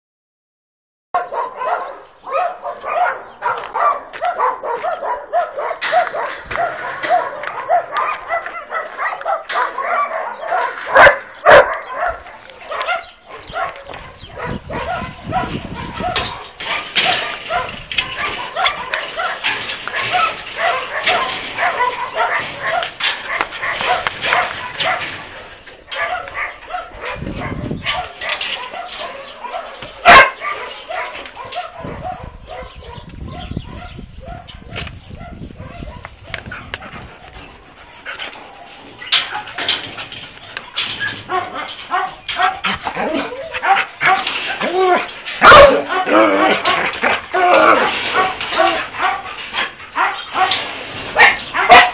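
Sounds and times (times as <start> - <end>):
dogs barking: 1.2 - 51.9.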